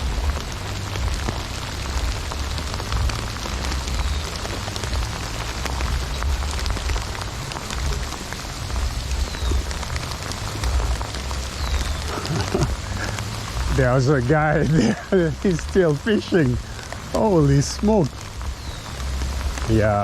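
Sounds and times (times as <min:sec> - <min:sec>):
heavy rain: 0:00.0 - 0:20.0
low uneven rumble: 0:00.0 - 0:20.0.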